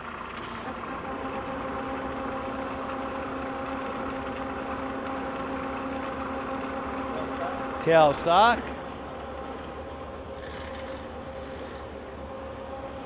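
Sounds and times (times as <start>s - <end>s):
lathe humming with steady whine: 0.0s - 13.0s.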